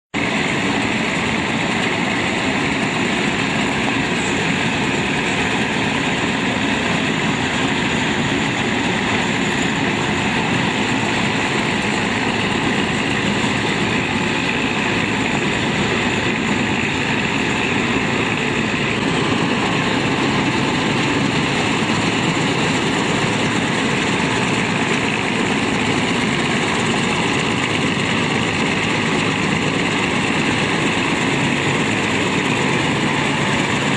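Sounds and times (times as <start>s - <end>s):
combine harvester engine running: 0.2s - 33.9s.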